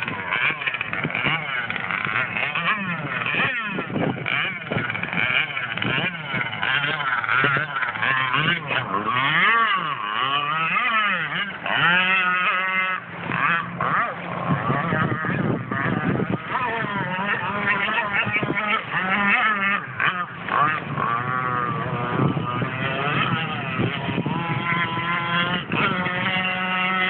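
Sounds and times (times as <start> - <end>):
boat engine buzzing and revving: 0.0 - 27.0.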